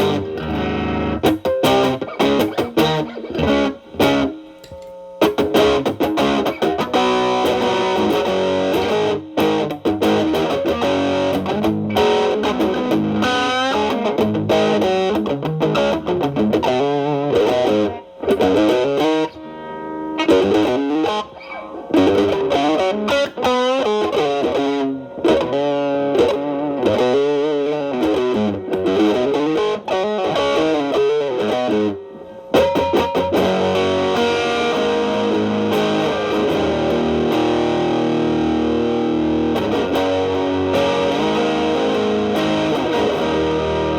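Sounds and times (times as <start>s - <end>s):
distorted electric guitar blues lead: 0.0s - 43.9s.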